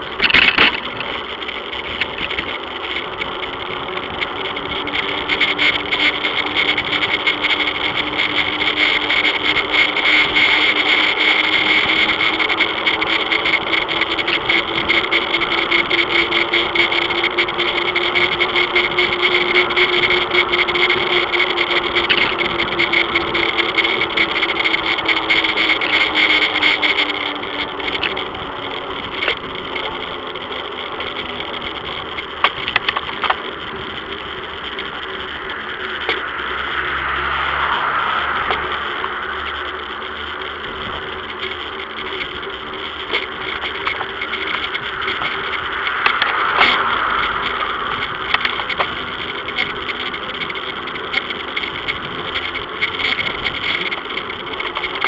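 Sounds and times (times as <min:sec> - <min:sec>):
bicycle tyres humming on asphalt: 0:00.0 - 0:55.0.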